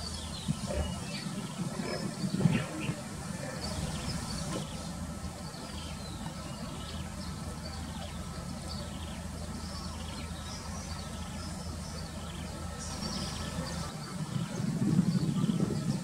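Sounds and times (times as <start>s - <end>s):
diesel truck engine droning: 0.0s - 14.9s.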